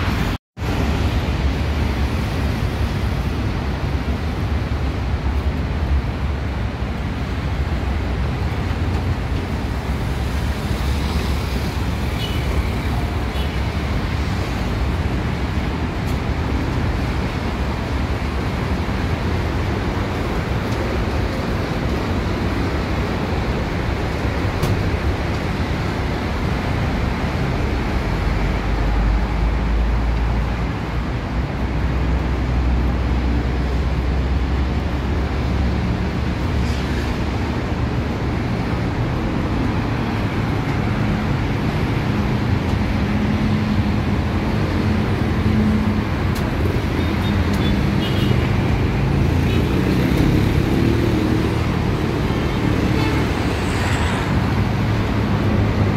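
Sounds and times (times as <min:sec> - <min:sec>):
road traffic rumble: 0:00.0 - 0:55.9.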